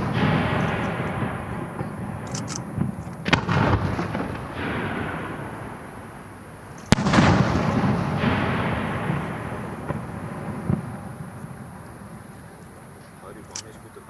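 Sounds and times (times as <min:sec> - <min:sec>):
firework bangs with rolling echo: 0:00.0 - 0:14.0
firework crackles: 0:00.0 - 0:14.0.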